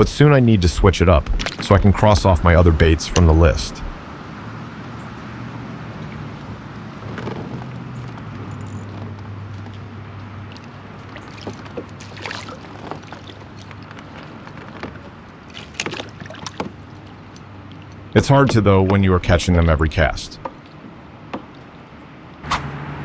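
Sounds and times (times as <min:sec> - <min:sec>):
boat engine low hum: 0:00.0 - 0:23.0.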